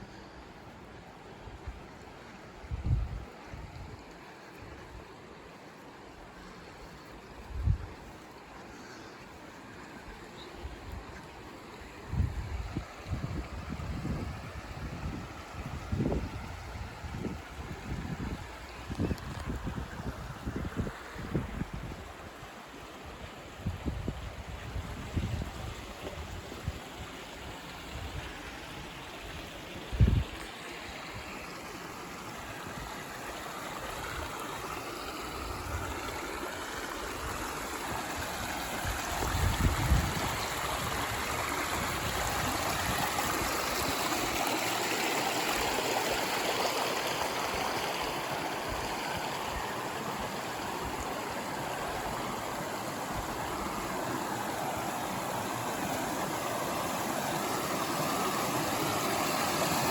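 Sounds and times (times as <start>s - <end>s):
creek water running: 0.0s - 59.9s.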